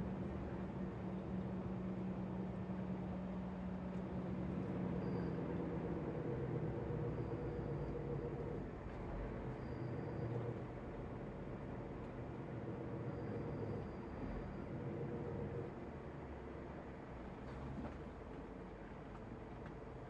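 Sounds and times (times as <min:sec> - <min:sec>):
lorry diesel engine running: 0:00.0 - 0:20.0
road noise: 0:00.0 - 0:20.0.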